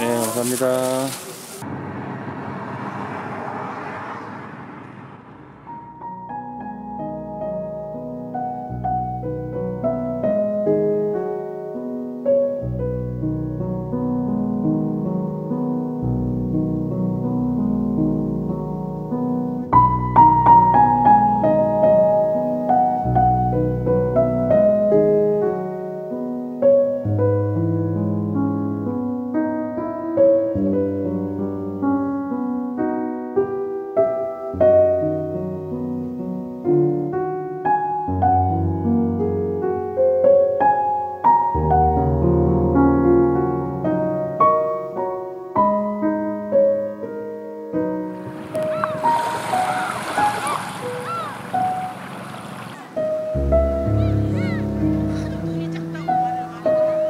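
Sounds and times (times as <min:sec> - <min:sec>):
soft solo piano music: 0:05.7 - 0:57.0.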